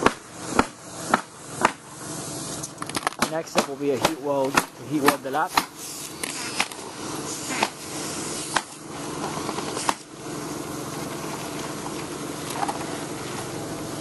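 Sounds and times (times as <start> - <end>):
fan-like mechanical hum: 0.0 - 14.0.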